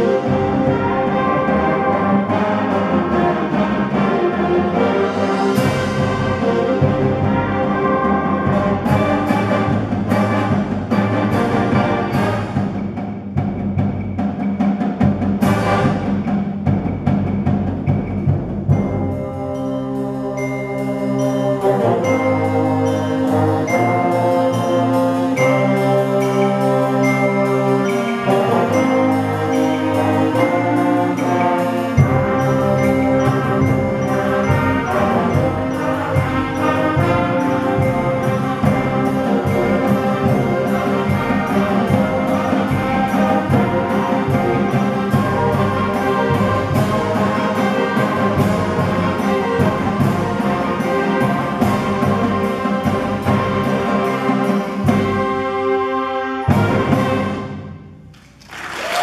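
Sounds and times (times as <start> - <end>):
steady drum beat: 0.0 - 20.2, 21.0 - 55.6
concert band playing: 0.0 - 59.0.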